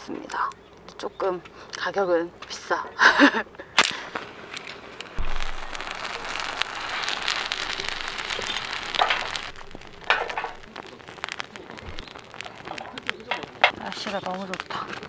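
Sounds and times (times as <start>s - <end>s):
match burning hiss and crackle: 1.5s - 15.0s.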